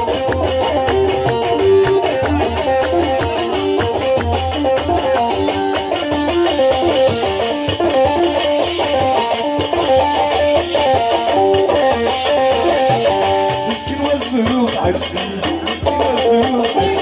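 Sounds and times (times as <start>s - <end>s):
plucked-string melody: 0.0s - 17.0s
steady bass: 0.0s - 17.0s.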